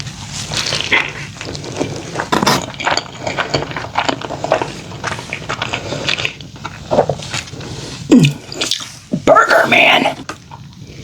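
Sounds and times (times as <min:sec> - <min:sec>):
chewing and biting: 0:00.2 - 0:09.0.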